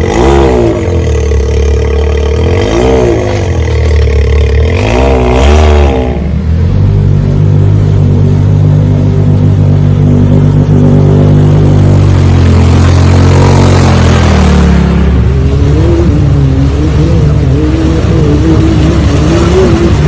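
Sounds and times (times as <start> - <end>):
motor vehicle engine revving: 0.0 - 20.0.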